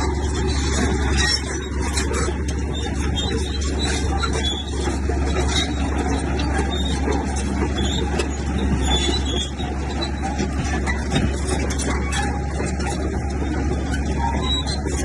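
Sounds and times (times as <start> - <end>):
diesel machinery engine drone: 0.0 - 15.0
metallic squeaks and clanks: 0.0 - 15.0.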